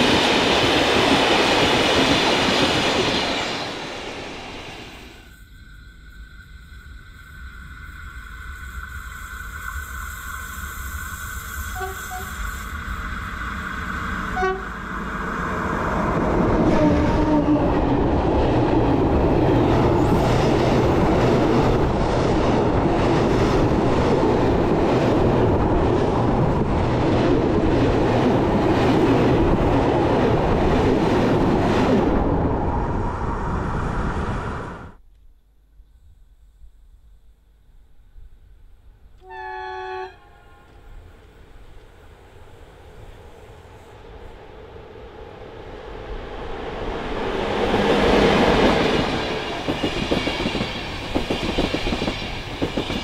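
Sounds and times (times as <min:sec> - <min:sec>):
train rumbling overhead: 0:00.0 - 0:35.0, 0:37.6 - 0:53.0.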